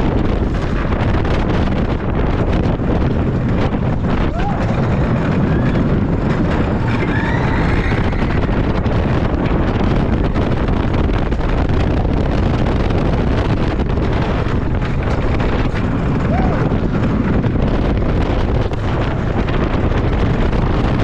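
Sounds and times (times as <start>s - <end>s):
roller coaster wheels roaring: 0.0s - 21.0s
wind rushing over microphone: 0.0s - 21.0s.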